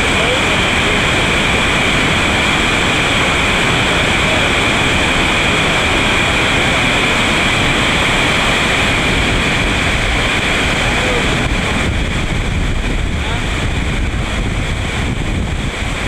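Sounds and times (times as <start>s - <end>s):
whitewater rapid rushing: 0.0s - 16.0s.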